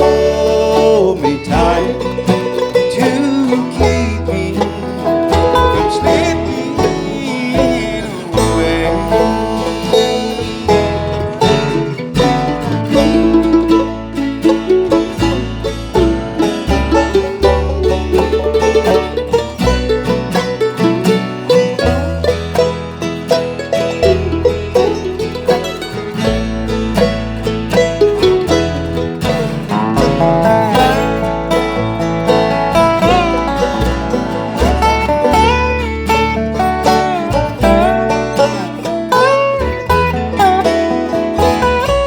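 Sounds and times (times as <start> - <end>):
banjo picking rolls: 0.0 - 42.0
guitar: 0.0 - 42.0
walking bass line: 0.0 - 42.0.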